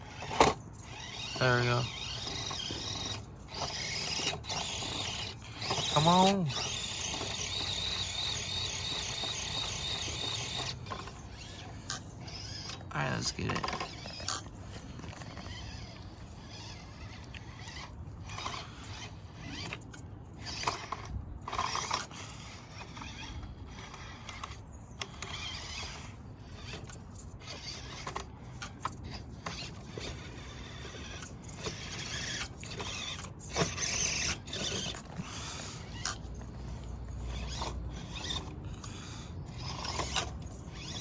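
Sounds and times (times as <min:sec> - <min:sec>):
toy car motor whirring: 0:00.0 - 0:41.0.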